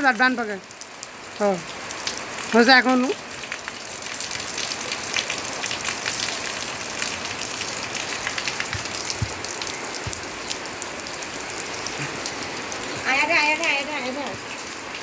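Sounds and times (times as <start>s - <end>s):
rain falling: 0.0s - 15.0s
raindrops tapping on surfaces: 0.0s - 15.0s.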